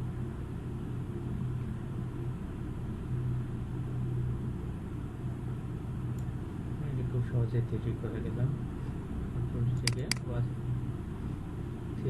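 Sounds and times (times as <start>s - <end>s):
low background hum and rumble: 0.0s - 12.0s.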